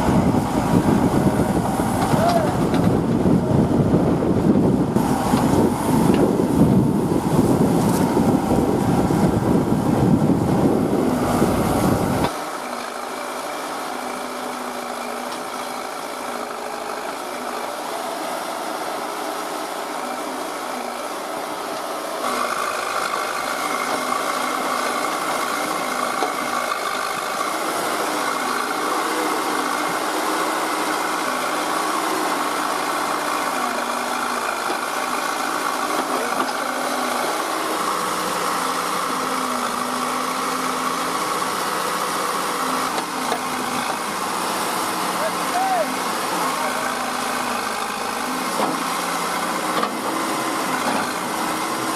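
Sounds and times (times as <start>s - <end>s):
diesel machinery engine running: 0.0s - 51.9s.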